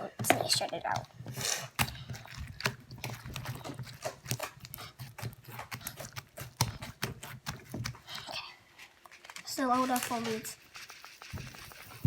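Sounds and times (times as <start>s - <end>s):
foam beads and slime crackling: 0.4s - 12.0s.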